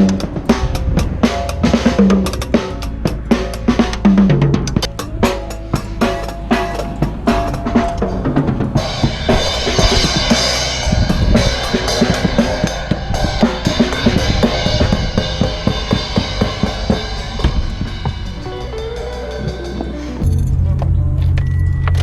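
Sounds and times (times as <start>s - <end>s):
cymbals washing: 0.0s - 20.8s.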